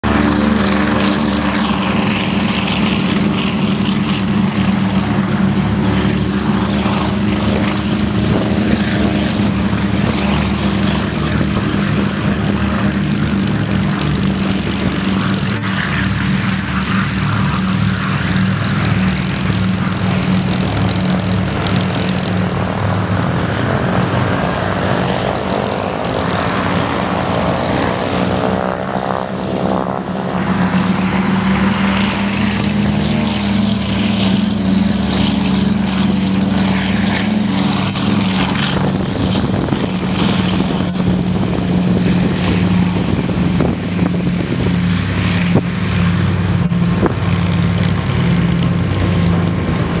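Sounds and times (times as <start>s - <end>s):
propeller plane engines droning: 0.0s - 50.0s.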